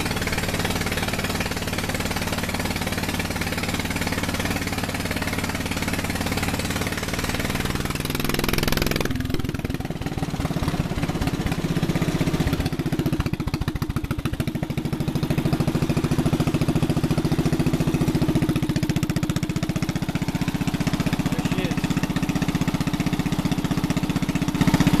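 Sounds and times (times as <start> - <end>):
compressor pump beat: 0.0 - 25.0
engine running slow even beat: 0.0 - 25.0.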